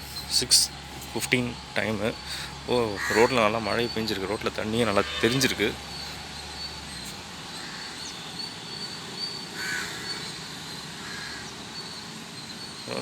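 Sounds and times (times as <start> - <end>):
high insect trill: 0.0 - 13.0
crow cawing: 2.3 - 12.8.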